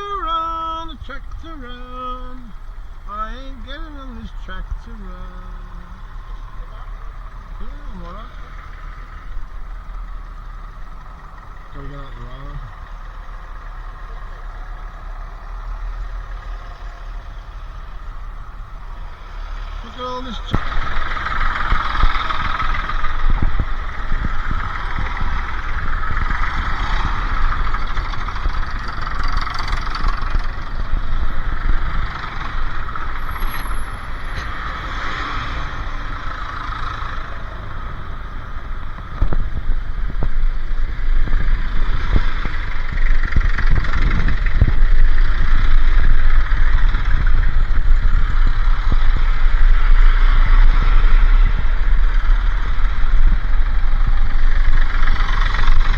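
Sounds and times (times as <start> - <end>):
pickup truck engine running: 0.0 - 55.9
road rumble: 0.0 - 55.9.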